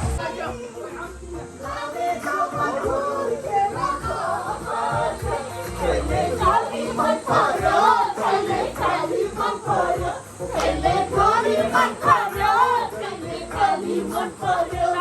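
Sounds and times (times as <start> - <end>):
music: 0.0 - 15.0
voices singing together: 0.0 - 15.0.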